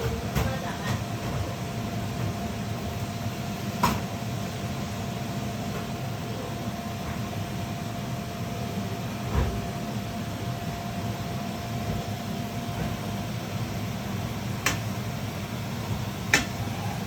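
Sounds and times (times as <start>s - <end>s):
fan-like hum and hiss: 0.0s - 17.0s.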